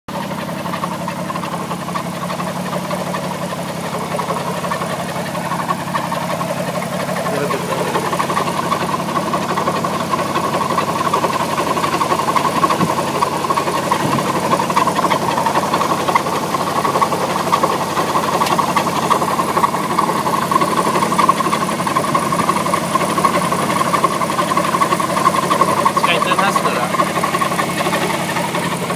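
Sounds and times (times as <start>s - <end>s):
car engine idling: 0.1s - 28.9s.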